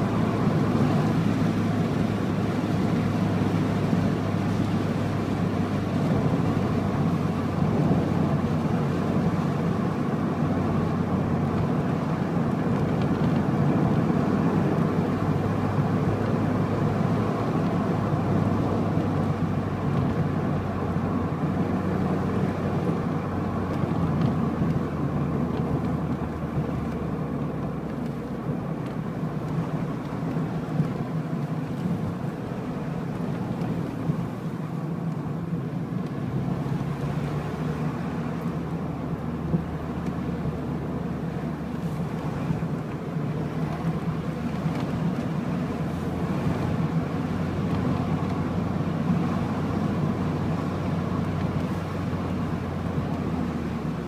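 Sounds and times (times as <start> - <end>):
road noise: 0.0 - 54.0
vehicle engine droning: 0.0 - 54.0.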